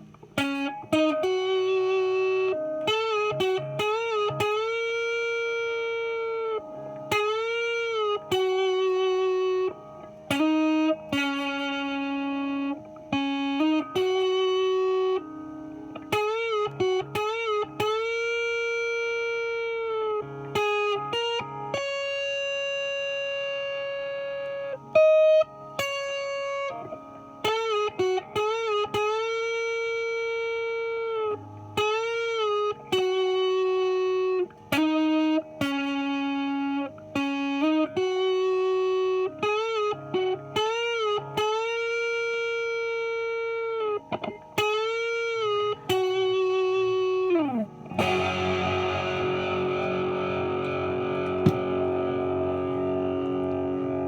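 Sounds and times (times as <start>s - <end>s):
electric guitar lead line: 0.0s - 54.0s.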